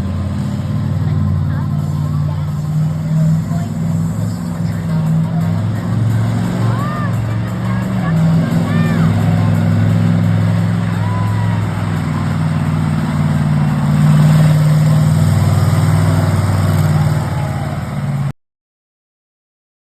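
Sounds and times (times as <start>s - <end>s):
engine idling: 0.0s - 18.3s.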